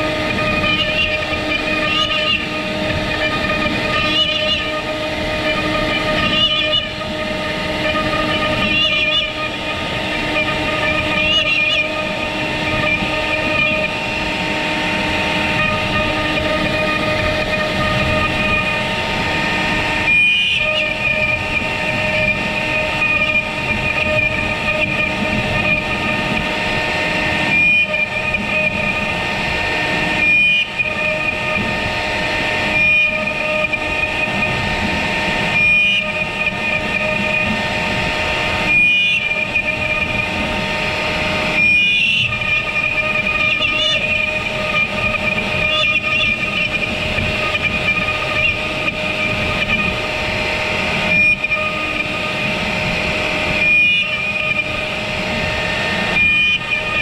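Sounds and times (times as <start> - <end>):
bit carving wood: 0.0 - 57.0
router spindle whining: 0.0 - 57.0.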